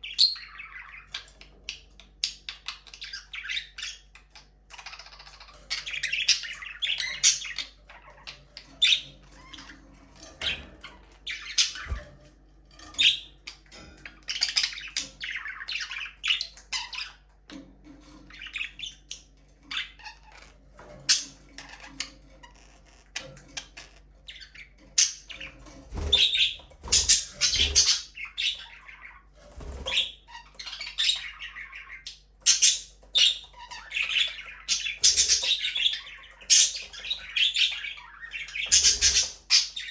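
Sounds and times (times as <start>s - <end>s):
budgerigars chirping: 0.0s - 12.1s, 12.9s - 17.3s, 18.1s - 39.9s.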